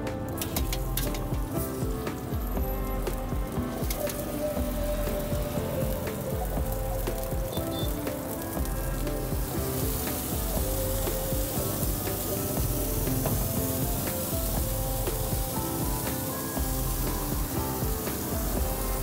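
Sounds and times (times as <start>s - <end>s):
background music: 0.0s - 19.0s
vegetables sizzling in a wok: 0.0s - 19.0s.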